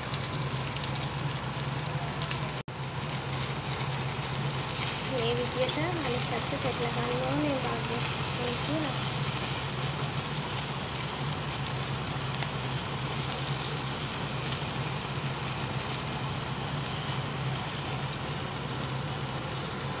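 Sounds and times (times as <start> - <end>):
fish crackling and sizzling: 0.0 - 20.0.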